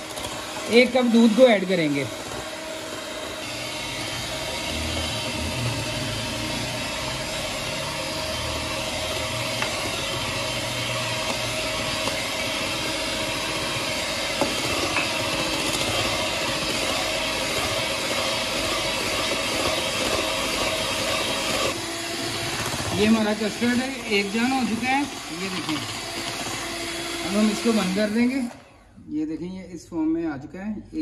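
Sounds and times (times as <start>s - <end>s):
electric hand mixer whisking: 0.0s - 29.0s.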